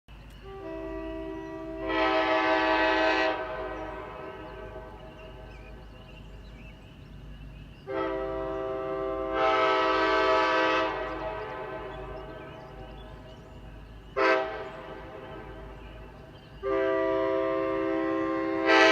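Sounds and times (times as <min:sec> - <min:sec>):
horn echo: 0:00.4 - 0:05.8, 0:07.9 - 0:13.5, 0:14.1 - 0:18.9
locomotive air horn blasts: 0:00.4 - 0:05.8, 0:07.9 - 0:13.3, 0:14.1 - 0:18.9.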